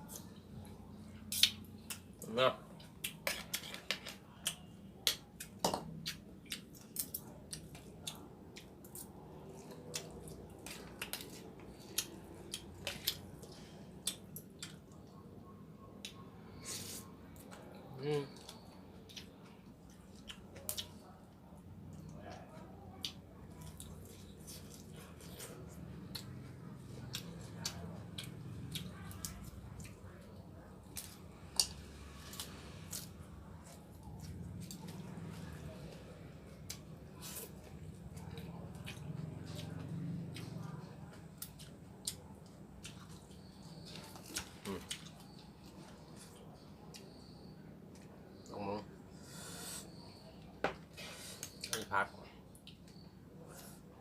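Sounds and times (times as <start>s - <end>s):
wet chewing sounds: 0.0s - 48.5s.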